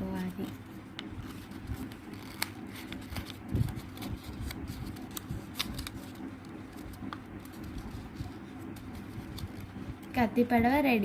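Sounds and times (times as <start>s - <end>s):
paper rustling and crinkling: 0.0s - 10.1s.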